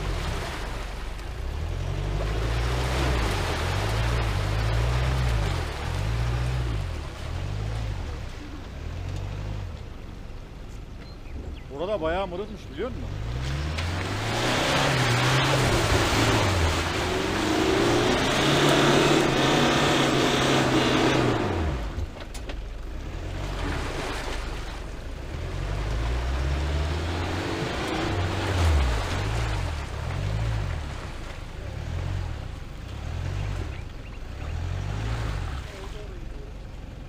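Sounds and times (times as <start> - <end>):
truck engine revving: 0.0 - 10.4, 12.8 - 36.8
tyres churning mud and water: 0.0 - 37.0.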